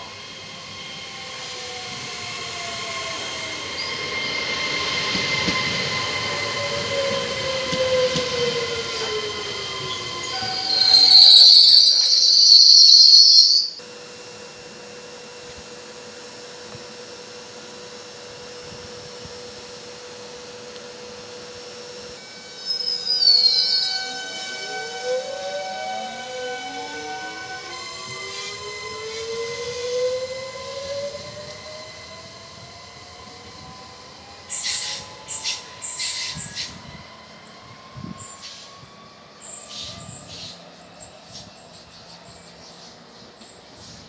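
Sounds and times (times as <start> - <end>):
train motor whine: 0.0 - 44.0
train steady hum: 0.0 - 44.0
high brake squeal: 0.1 - 13.8, 22.1 - 44.0.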